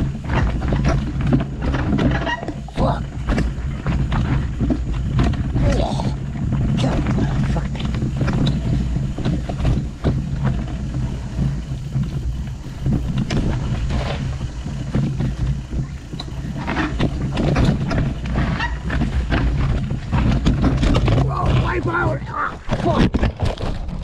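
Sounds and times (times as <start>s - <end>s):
bike knocking over rocks: 0.0s - 24.0s
bike rattling: 0.0s - 24.0s
bike tyres rolling over dirt: 0.0s - 24.0s.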